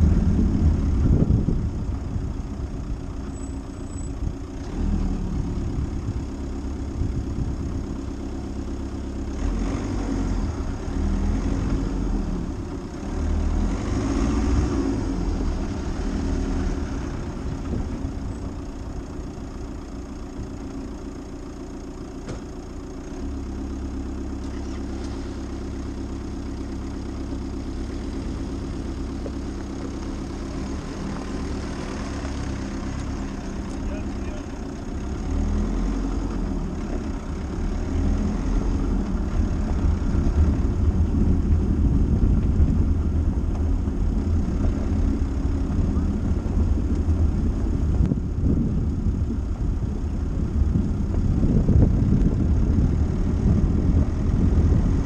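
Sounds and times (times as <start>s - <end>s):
car engine running at low revs: 0.0s - 55.0s.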